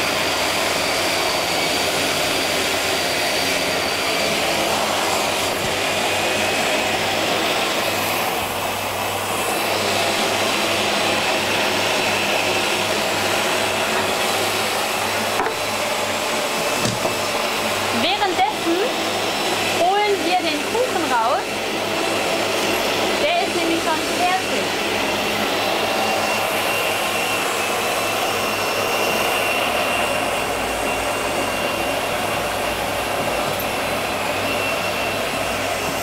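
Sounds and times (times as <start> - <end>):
food processor running: 0.0 - 36.0.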